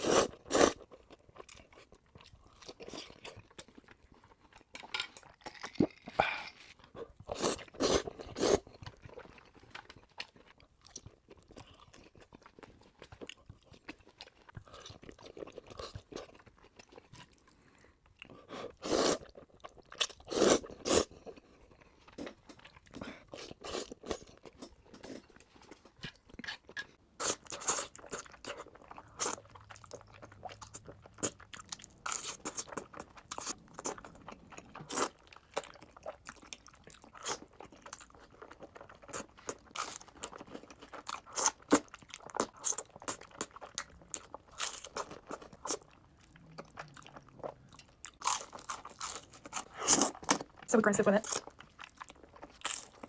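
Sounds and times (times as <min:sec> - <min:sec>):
quiet chewing and crackling: 0:00.0 - 0:53.0.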